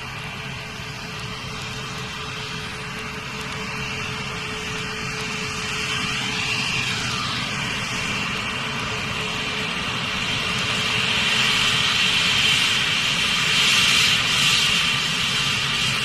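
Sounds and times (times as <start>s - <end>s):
jet engine whine and rumble: 0.0s - 16.0s.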